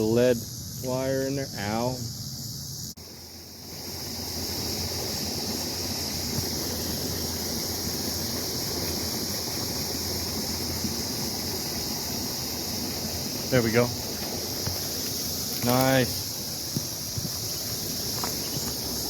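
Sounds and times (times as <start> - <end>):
insects droning: 0.0 - 19.0
water running over rocks: 3.0 - 19.0.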